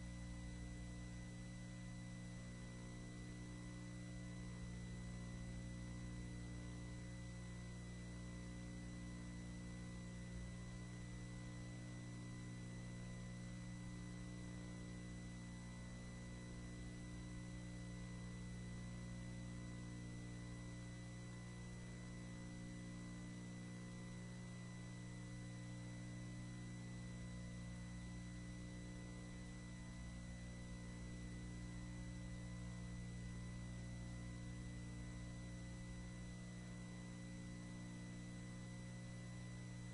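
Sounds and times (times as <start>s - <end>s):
electrical hum: 0.0s - 39.9s
faint high whine: 0.0s - 39.9s.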